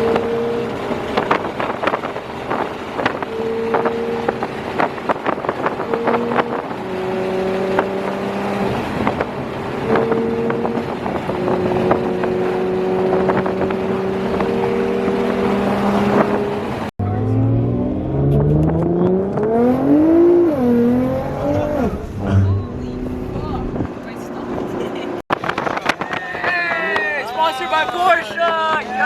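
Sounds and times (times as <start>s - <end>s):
car engine droning: 0.0s - 25.2s
car engine revving: 0.0s - 25.2s.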